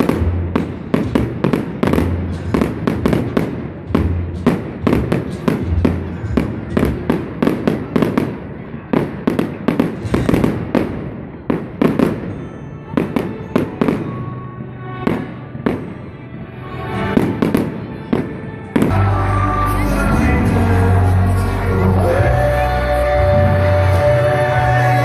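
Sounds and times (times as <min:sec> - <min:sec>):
fireworks bursting with bangs: 0:00.0 - 0:16.2, 0:16.9 - 0:22.2
fireworks crackling: 0:00.0 - 0:25.0.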